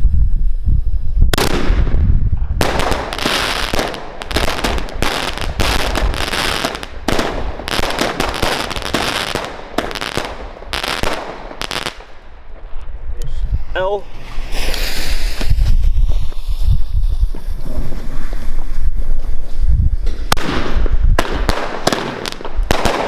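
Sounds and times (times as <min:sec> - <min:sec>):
fireworks shots and bursts: 0:01.2 - 0:12.7, 0:14.0 - 0:19.0, 0:20.0 - 0:23.0.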